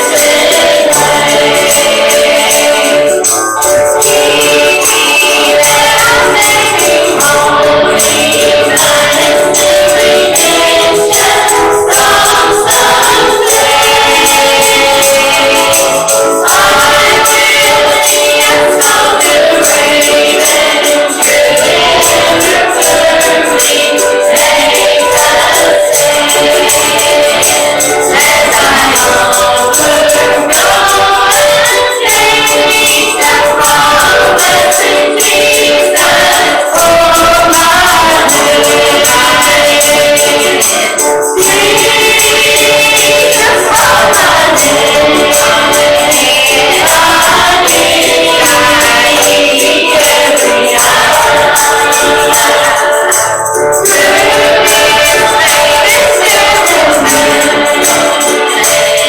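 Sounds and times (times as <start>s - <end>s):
group singing gospel song: 0.0s - 59.0s
tambourine beat: 0.0s - 59.0s.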